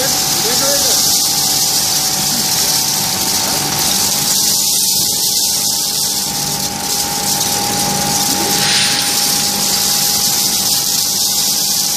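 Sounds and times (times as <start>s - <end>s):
vibratory feeder shaking scrap: 0.0s - 11.9s.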